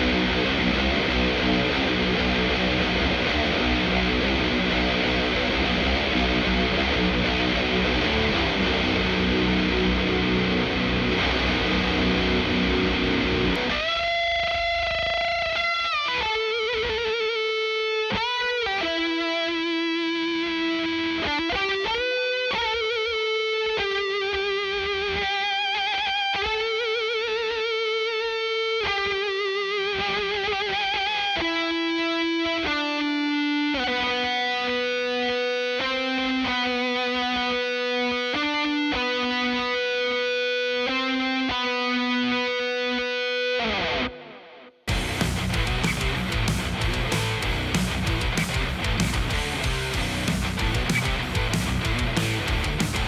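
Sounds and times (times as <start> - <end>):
distorted electric guitar: 0.0 - 53.0.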